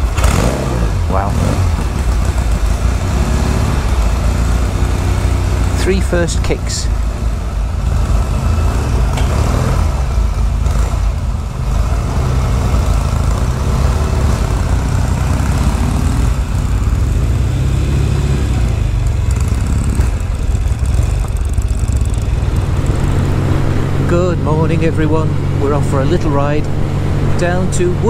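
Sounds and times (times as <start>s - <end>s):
motorcycle engine idling: 0.0s - 17.7s, 18.5s - 26.0s.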